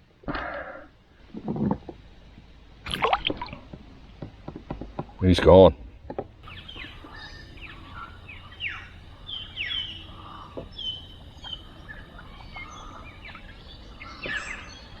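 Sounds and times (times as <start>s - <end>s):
birds chirping and whistling: 0.6s - 15.0s.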